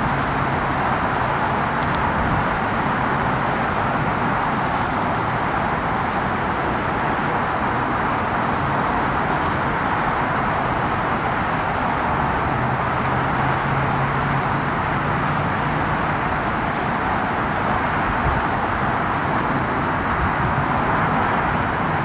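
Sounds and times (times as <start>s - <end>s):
distant rocket engine roar: 0.0s - 22.0s.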